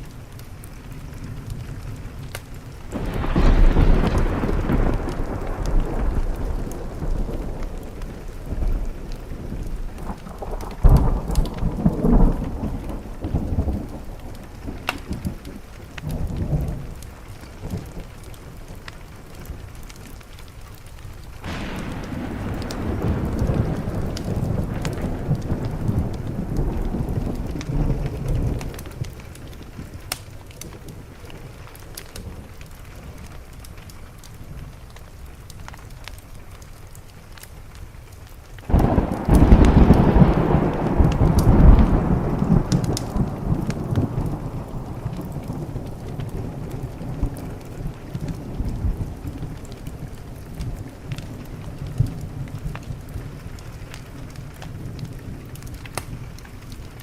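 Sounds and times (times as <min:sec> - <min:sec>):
steady rain: 0:00.0 - 0:57.0
wood fire crackling: 0:00.0 - 0:57.0
rolling thunder: 0:00.8 - 0:20.3, 0:21.2 - 0:33.3, 0:38.7 - 0:57.0.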